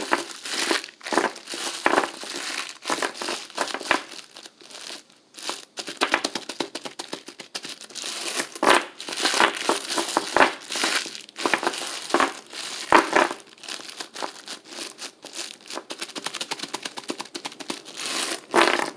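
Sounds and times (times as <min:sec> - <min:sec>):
plastic pack crinkling: 0:00.0 - 0:18.9.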